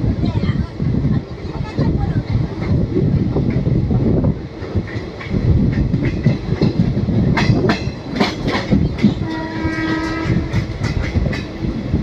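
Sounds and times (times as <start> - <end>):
train rumbling: 0.0 - 12.0
wind: 0.0 - 12.0
wheels clacking over track: 1.5 - 12.0.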